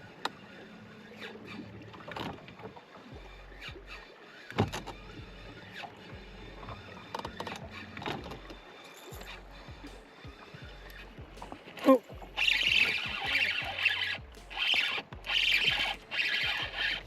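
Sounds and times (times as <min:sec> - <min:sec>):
gear knocking and rattling in boat: 0:01.2 - 0:17.0.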